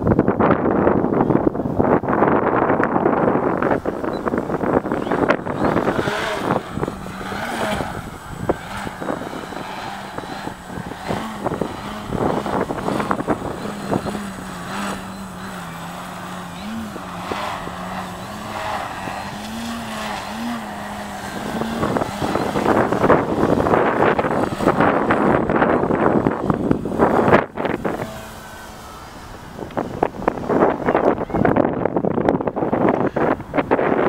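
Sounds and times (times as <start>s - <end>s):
wind buffeting microphone: 0.0s - 34.0s
electric motor propeller buzzing: 2.3s - 31.7s.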